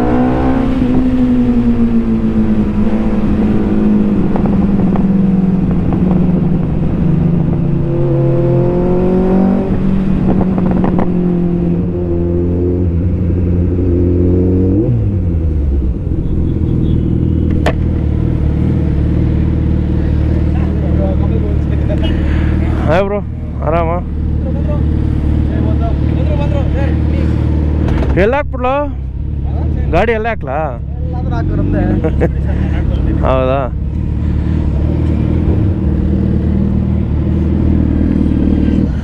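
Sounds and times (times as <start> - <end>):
motorcycle engine revving: 0.0 - 28.3, 28.9 - 39.0.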